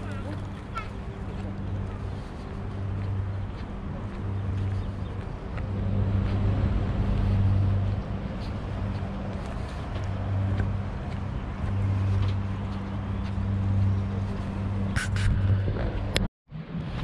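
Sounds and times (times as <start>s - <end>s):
low motor hum: 0.0s - 17.0s
outdoor background noise: 0.0s - 17.0s.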